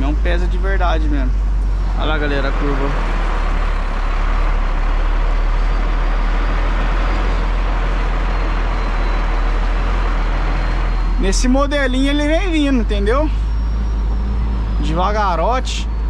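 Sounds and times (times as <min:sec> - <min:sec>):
road noise: 0:00.0 - 0:16.0
truck engine drone in cab: 0:00.0 - 0:16.0.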